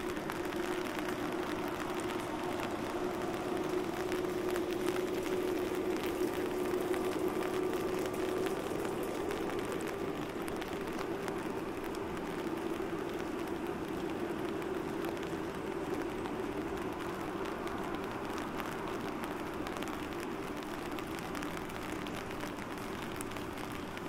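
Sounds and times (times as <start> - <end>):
raindrops ticking on an umbrella: 0.0 - 24.0
steady rain: 0.0 - 24.0.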